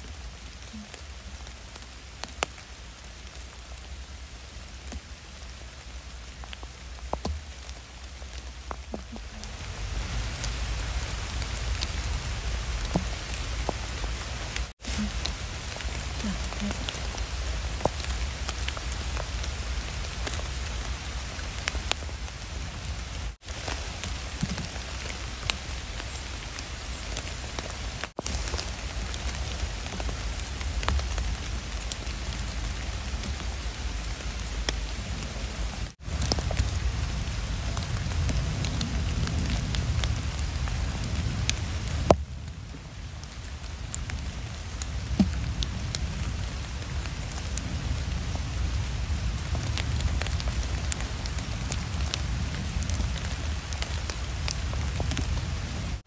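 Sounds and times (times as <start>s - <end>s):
raindrops pattering close by: 0.0s - 56.0s
steady rain falling: 0.0s - 56.0s.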